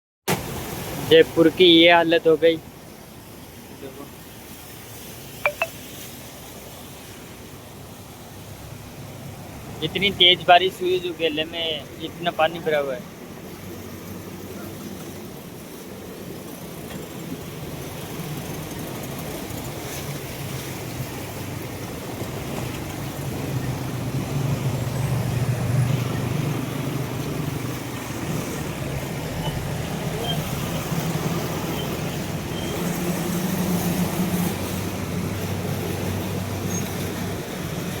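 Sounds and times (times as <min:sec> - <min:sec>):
road traffic: 0:00.3 - 0:38.0
vehicles passing: 0:02.6 - 0:38.0.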